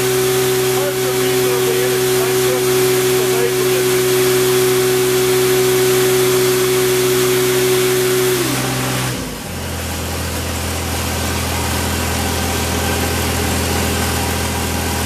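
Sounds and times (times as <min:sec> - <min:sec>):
locomotive diesel engine idling: 0:00.0 - 0:07.6, 0:08.8 - 0:15.0.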